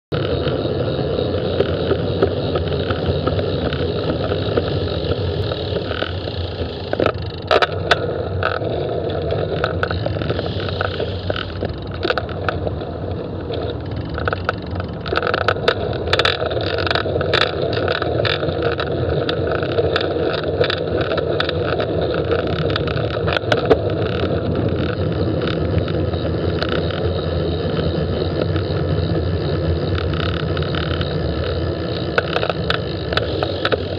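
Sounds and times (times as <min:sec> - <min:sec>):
hum of nearby vehicles: 0:00.1 - 0:33.9
sharp clicks and knocks: 0:01.3 - 0:33.9.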